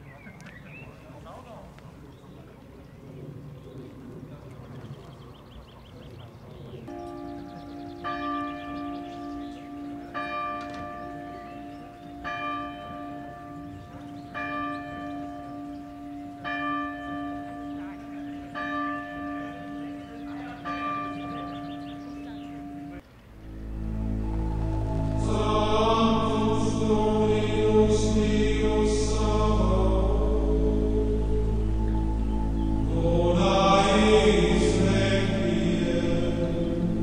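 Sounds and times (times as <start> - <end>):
church bell tolling: 6.9 - 37.0.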